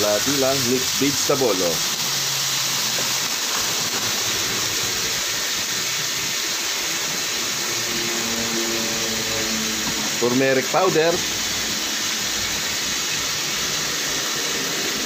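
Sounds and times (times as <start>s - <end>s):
vegetables frying in a wok: 0.0s - 15.0s.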